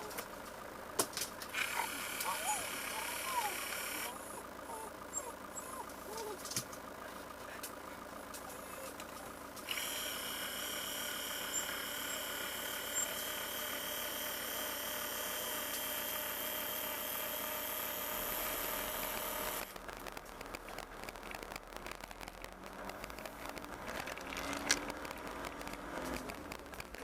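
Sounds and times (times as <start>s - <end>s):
engine droning: 0.0s - 27.0s
steady high whine: 0.0s - 27.0s.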